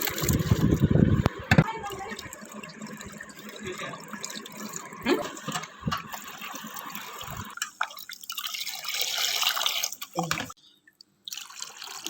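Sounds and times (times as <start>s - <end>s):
water running and splashing: 0.0s - 10.6s, 11.3s - 12.0s.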